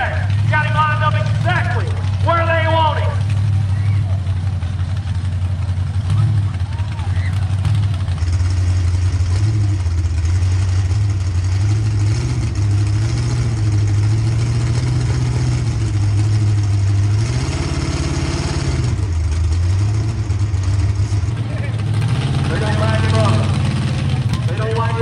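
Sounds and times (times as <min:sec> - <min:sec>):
truck engine idling lumpy: 0:00.0 - 0:25.0.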